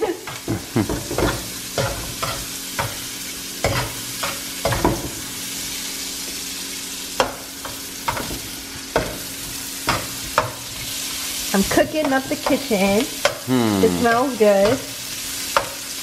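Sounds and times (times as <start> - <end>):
sausage sizzling in a frying pan: 0.0 - 16.0.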